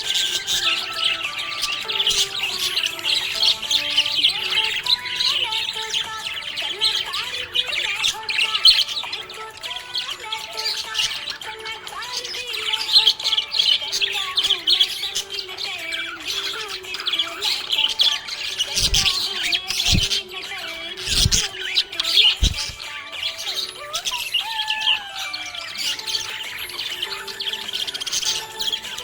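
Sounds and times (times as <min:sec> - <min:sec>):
budgerigar chattering: 0:00.0 - 0:29.0.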